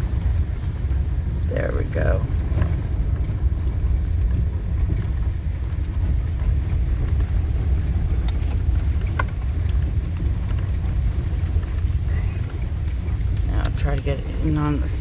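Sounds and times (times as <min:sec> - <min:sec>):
van driving rumble: 0:00.0 - 0:15.0.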